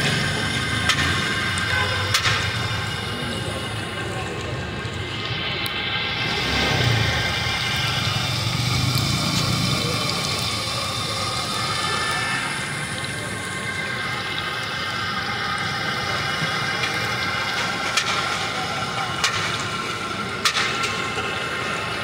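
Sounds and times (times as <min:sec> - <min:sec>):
batter deep-frying in oil: 0:00.0 - 0:22.0.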